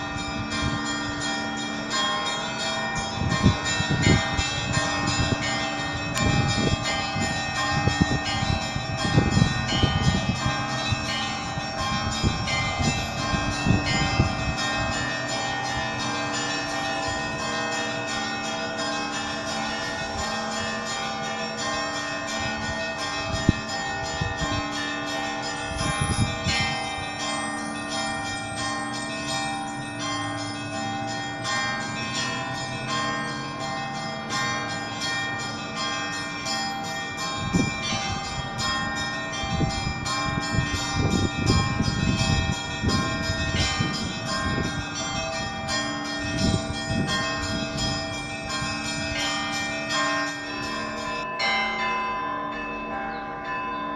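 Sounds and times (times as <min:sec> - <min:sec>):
large bells tolling: 0:00.0 - 0:53.9.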